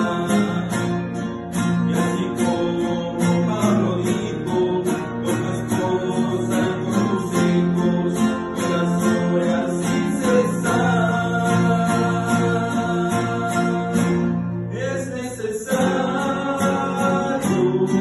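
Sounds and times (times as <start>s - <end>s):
acoustic guitars strumming chords: 0.0s - 18.0s.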